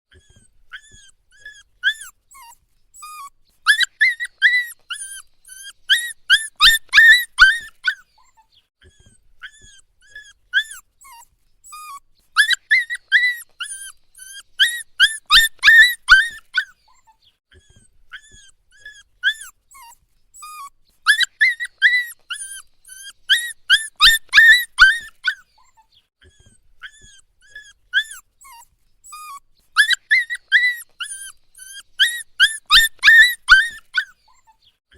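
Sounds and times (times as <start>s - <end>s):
puppy whining and crying: 0.1s - 34.8s.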